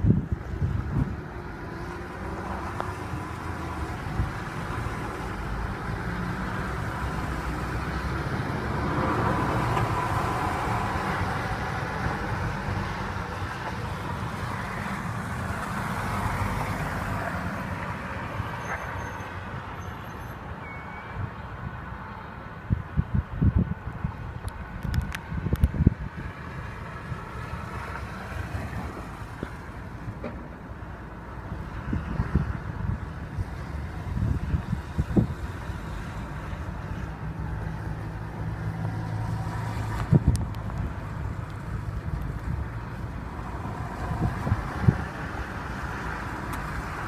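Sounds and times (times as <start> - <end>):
traffic on wet street: 0.0 - 47.0.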